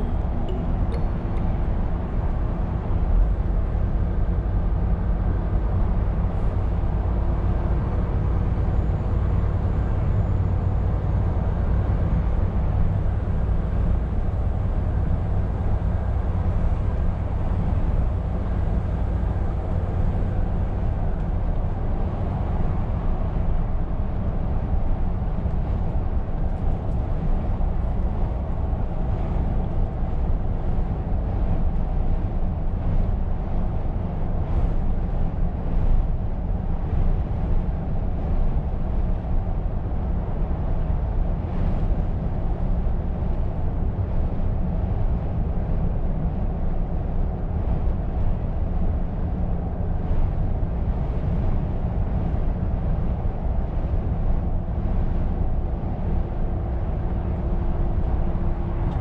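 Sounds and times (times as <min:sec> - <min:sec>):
truck engine drone: 0:00.0 - 0:59.0.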